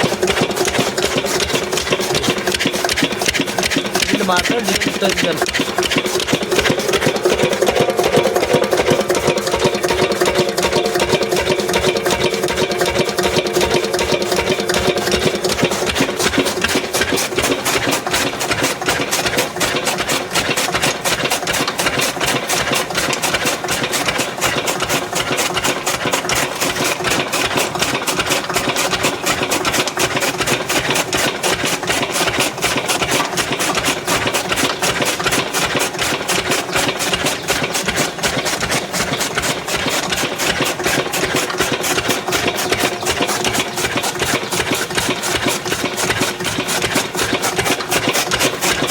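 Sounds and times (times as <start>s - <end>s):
single-cylinder diesel engine running: 0.0s - 48.9s.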